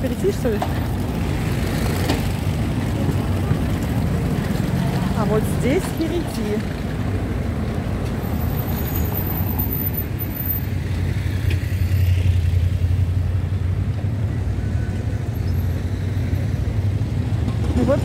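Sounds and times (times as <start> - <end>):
passing cars rumbling: 0.0 - 18.0.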